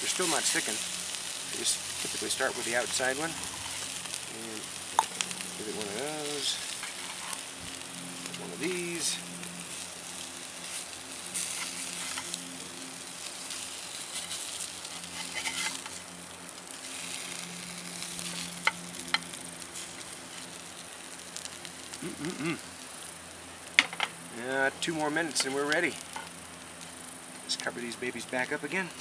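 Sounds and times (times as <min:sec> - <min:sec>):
fish sizzling in oil: 0:00.0 - 0:29.0.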